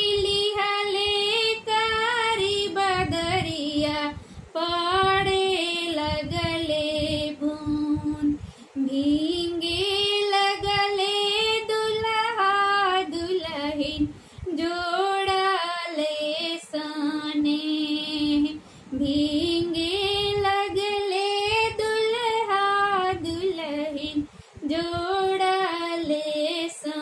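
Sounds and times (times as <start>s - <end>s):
woman singing folk song: 0.0s - 27.0s.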